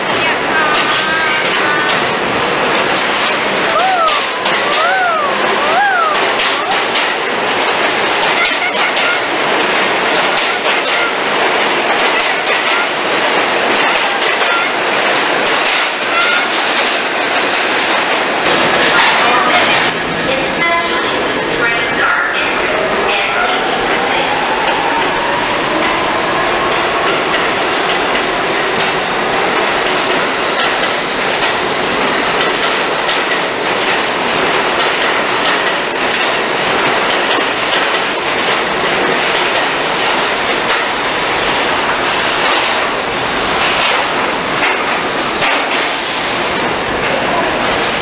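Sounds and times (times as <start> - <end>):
train wheels clattering over rail joints: 0.0 - 20.1, 22.8 - 48.0
train motors whining: 0.0 - 48.0.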